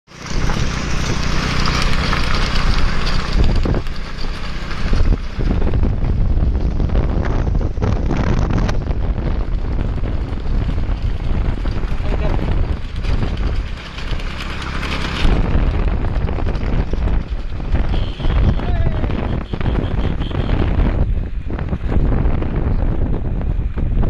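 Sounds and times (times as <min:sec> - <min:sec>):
vehicle engine drone: 0:00.0 - 0:24.0
wind on microphone: 0:00.1 - 0:24.0.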